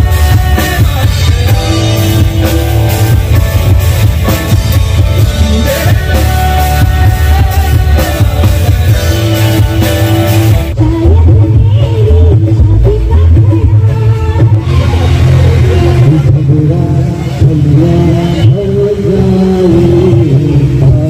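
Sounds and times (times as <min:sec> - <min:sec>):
man singing into microphone: 0:00.0 - 0:03.4, 0:05.0 - 0:21.0
live band playing: 0:00.0 - 0:21.0.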